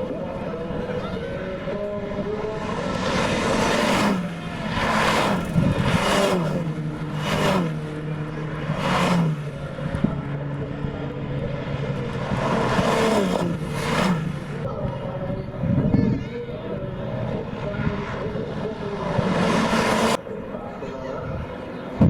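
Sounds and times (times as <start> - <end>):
race cars passing by: 0.0 - 22.0.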